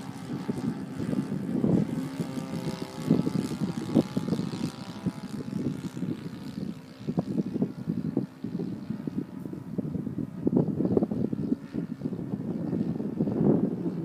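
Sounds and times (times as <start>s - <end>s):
model plane engine drone: 0.0s - 14.0s
wind buffeting microphone: 0.0s - 14.0s.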